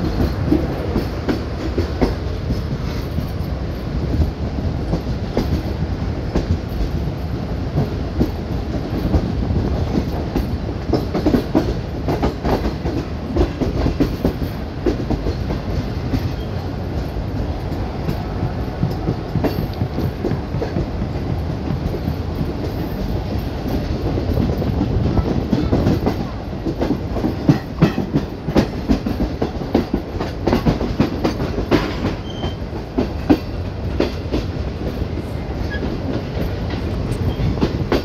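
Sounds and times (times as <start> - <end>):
train coaches rumbling: 0.0 - 38.0
wheels clicking over rail joints: 0.0 - 38.0.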